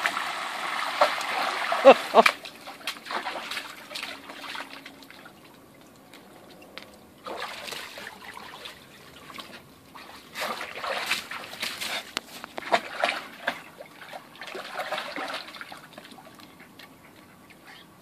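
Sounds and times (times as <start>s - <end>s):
dog splashing in water: 0.0s - 17.2s
water trickling and dripping: 0.0s - 18.0s.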